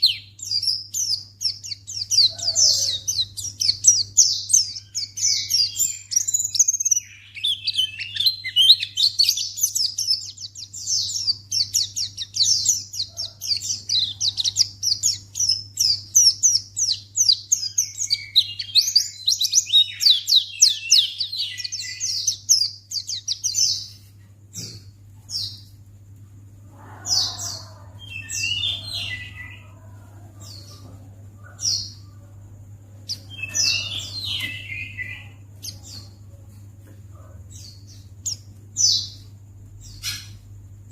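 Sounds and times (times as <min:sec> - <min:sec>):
bird twittering: 0:00.0 - 0:25.7, 0:26.8 - 0:36.4
faint low hum: 0:00.0 - 0:40.9.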